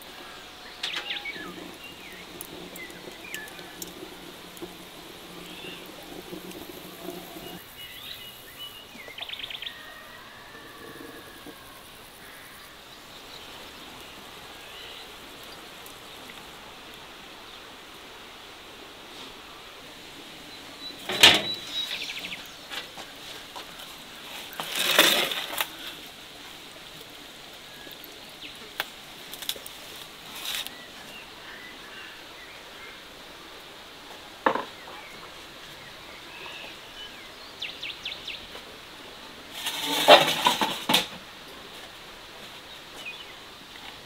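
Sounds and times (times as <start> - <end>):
faint background noise: 0.0 - 44.0.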